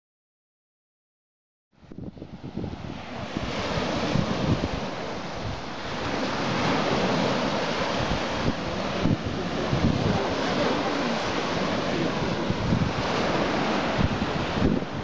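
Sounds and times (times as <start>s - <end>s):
waves washing onto beach: 1.8s - 15.0s
wind buffeting microphone: 1.8s - 15.0s.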